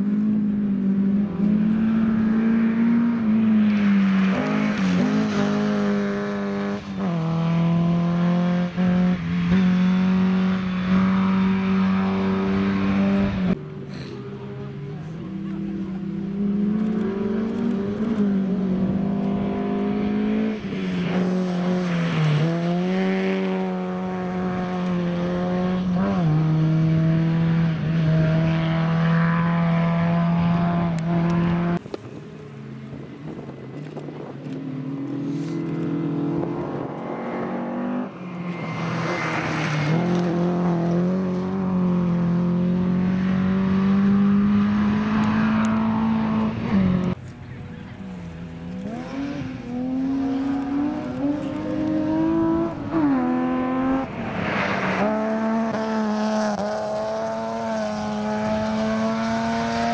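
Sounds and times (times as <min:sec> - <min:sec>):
rally car approaching at high revs: 0:00.0 - 0:31.8, 0:32.9 - 0:47.2, 0:47.8 - 0:59.9
rally car engine revving: 0:00.0 - 0:31.8, 0:35.0 - 0:47.2, 0:47.8 - 0:59.9.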